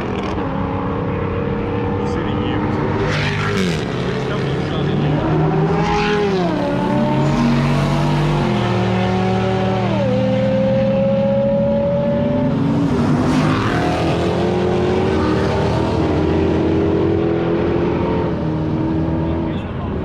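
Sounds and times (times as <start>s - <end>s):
car engines revving high: 0.0s - 20.0s.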